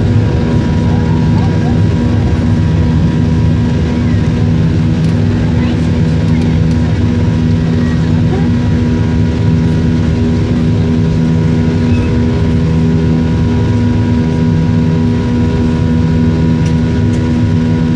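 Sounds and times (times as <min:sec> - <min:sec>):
aeroplane engines droning: 0:00.0 - 0:17.9.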